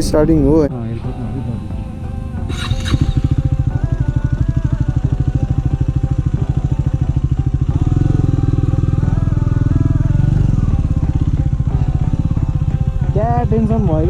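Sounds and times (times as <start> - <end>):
background music: 0.0 - 14.0
motorcycle engine running: 0.0 - 14.0.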